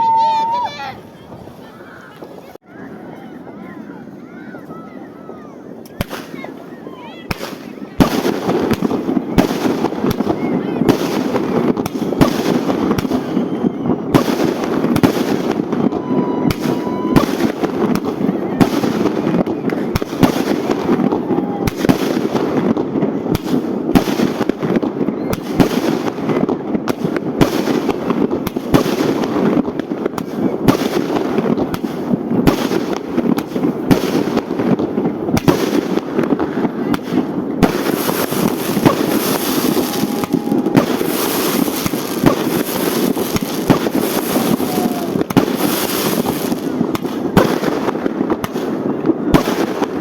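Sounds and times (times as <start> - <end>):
fireworks bangs and cracks: 3.0 - 50.0.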